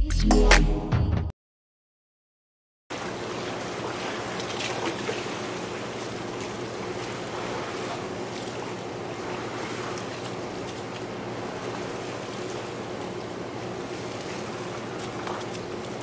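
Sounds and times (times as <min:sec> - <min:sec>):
water lapping: 0:02.9 - 0:16.0.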